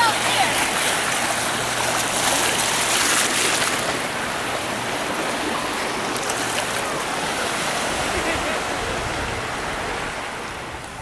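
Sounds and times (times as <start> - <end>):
small waves washing on beach: 0.0 - 11.0.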